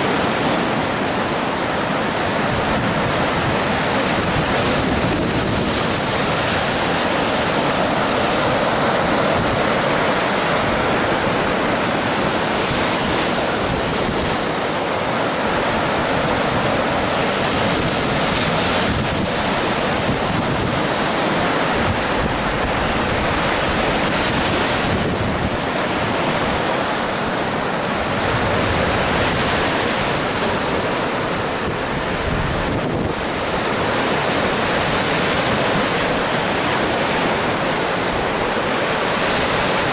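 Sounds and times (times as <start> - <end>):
surf breaking on shore: 0.0 - 39.9
wind on microphone: 0.0 - 39.9.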